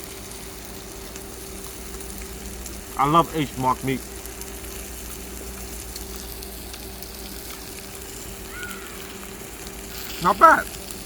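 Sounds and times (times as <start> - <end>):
pork belly sizzling in fat: 0.0 - 11.0.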